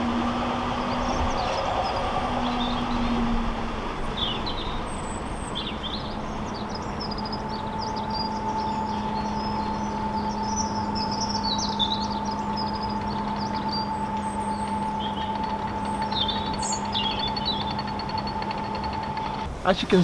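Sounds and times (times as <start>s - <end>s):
songbirds chirping and singing: 0.0s - 19.5s
boat engine hum: 0.0s - 20.0s
high steady whine: 0.0s - 20.0s.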